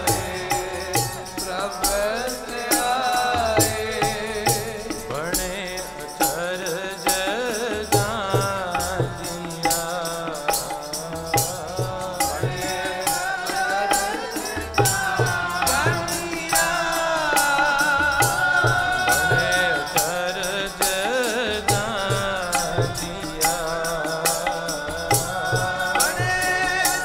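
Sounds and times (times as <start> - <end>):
devotional singing: 0.0 - 27.0
harmonium notes: 0.0 - 27.0
tabla beat: 0.0 - 27.0.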